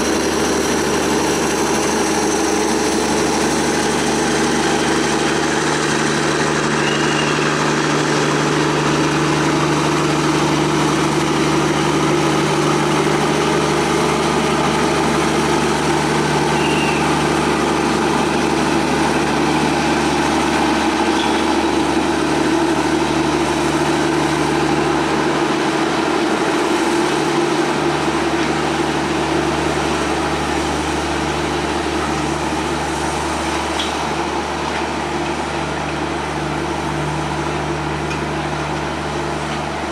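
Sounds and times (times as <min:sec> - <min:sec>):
train diesel engine idling: 0:00.0 - 0:39.9.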